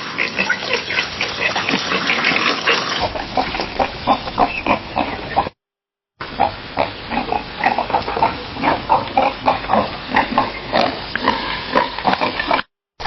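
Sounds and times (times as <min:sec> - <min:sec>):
pig grunting: 0:00.0 - 0:05.6, 0:06.3 - 0:12.7.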